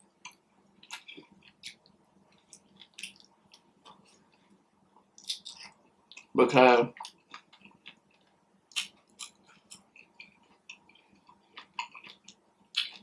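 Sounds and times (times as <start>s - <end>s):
chewing with wet mouth clicks: 0.2s - 4.4s, 5.0s - 6.3s, 7.0s - 13.0s.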